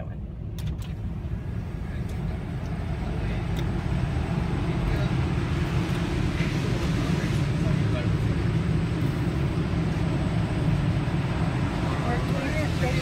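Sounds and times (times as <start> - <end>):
car wash machinery noise: 0.6 - 13.0.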